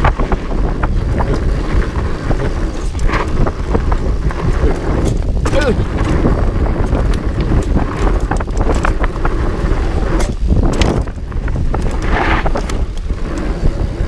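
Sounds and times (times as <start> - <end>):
bike clicking and rattling: 0.0 - 14.0
bike tyre rumble: 0.0 - 14.0
wind buffeting microphone: 0.0 - 14.0.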